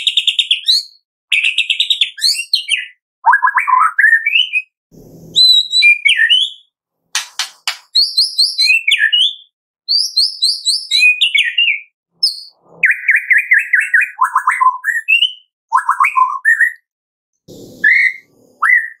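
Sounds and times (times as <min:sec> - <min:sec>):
bird whistled song: 0:00.0 - 0:04.7, 0:05.3 - 0:16.9, 0:17.6 - 0:19.0.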